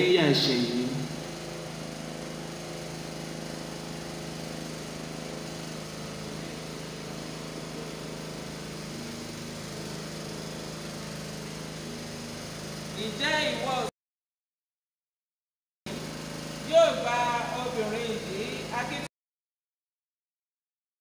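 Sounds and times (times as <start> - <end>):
small motor humming: 0.0 - 13.9, 15.9 - 19.1.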